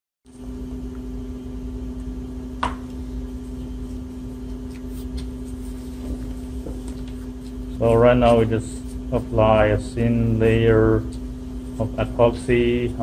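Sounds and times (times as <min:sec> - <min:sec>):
machine hum with low rumble: 0:00.3 - 0:13.0.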